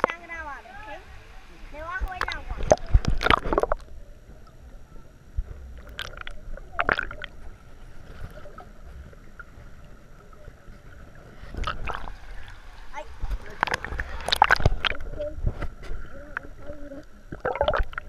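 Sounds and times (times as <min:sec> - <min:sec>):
muffled underwater rumble: 0:00.0 - 0:18.0
water gurgles: 0:00.0 - 0:18.0
water sloshing: 0:01.8 - 0:04.6, 0:05.6 - 0:18.0.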